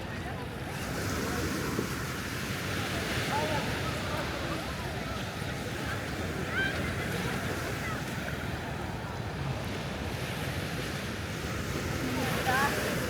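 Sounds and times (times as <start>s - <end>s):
faint indistinct voices: 0.0s - 13.0s
ocean surf washing onto beach: 0.0s - 13.0s.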